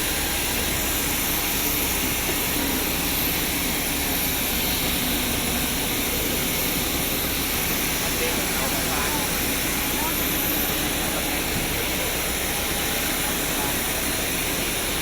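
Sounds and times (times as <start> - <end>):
airplane cabin engine noise: 0.0 - 15.0.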